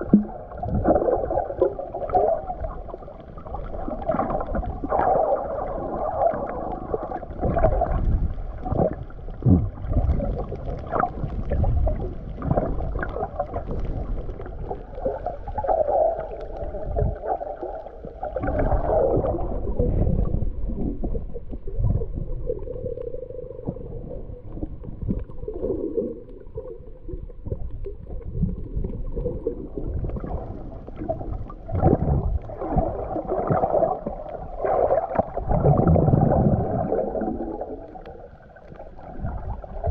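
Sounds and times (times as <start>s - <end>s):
low underwater rumbles: 0.0s - 39.9s
water washing and gurgling underwater: 0.0s - 39.9s.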